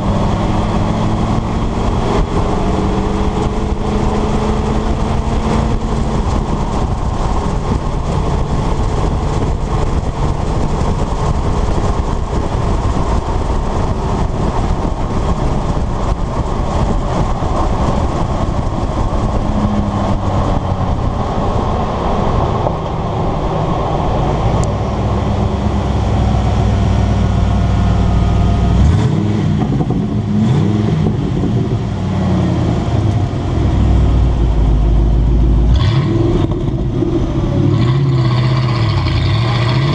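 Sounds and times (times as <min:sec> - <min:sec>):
road and wind noise: 0:00.0 - 0:39.9
truck engine exhaust: 0:00.0 - 0:39.9.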